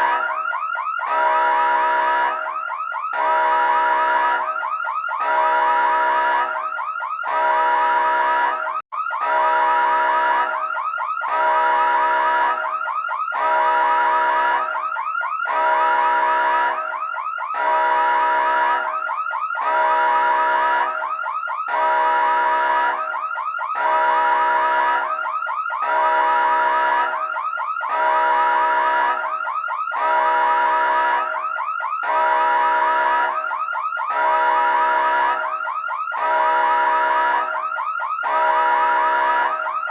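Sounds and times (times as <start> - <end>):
electronic emergency siren: 0.0 - 39.9.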